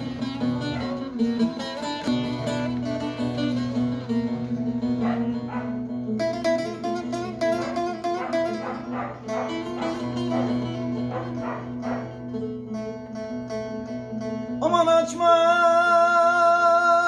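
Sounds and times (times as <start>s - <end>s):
lutes plucked and strummed: 0.0s - 17.0s.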